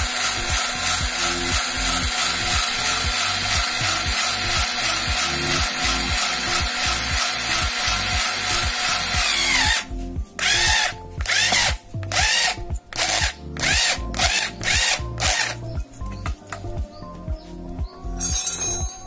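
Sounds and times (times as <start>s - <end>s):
electric drill motor whining: 0.0s - 15.7s.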